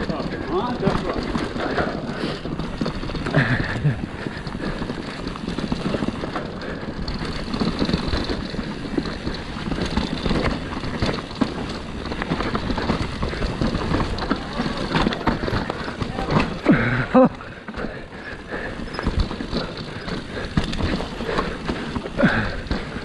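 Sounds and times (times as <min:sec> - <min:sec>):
bike rattling and clattering: 0:00.0 - 0:23.0
tyres rumbling on dirt: 0:00.0 - 0:23.0.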